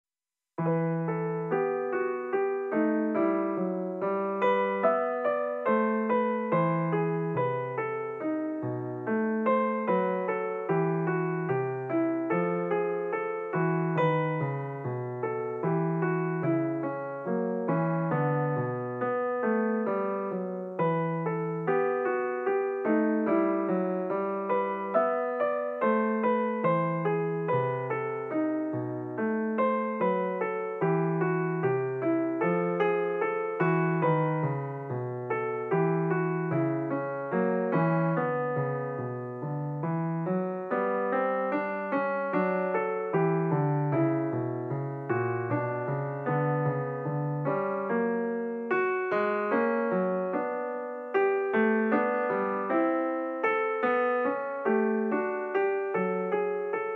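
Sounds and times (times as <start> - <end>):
solo piano music: 0.6 - 56.9.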